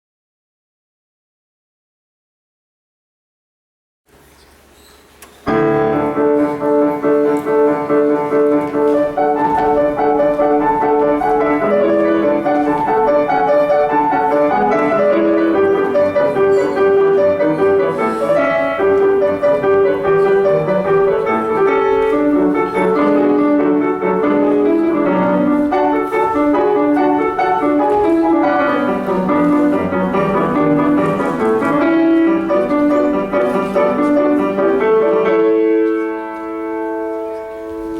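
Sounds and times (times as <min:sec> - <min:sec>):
classical solo piano: 0:05.3 - 0:37.9.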